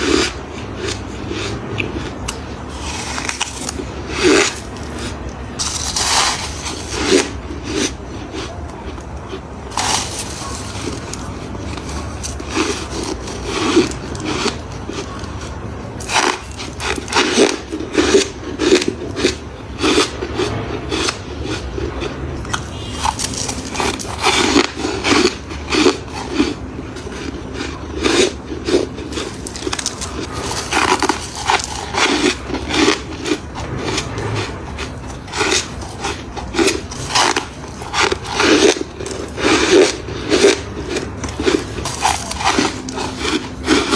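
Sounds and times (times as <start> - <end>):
frost crunching: 0.0 - 43.9
grinding chewing: 0.0 - 43.9.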